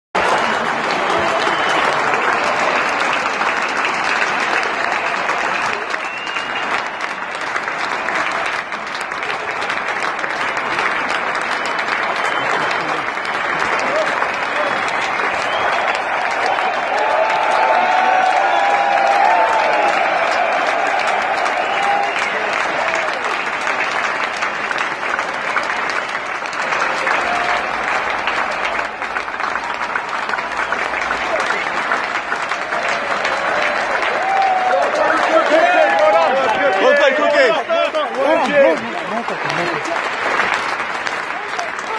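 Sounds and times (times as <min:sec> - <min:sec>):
crowd clapping: 0:00.2 - 0:41.9.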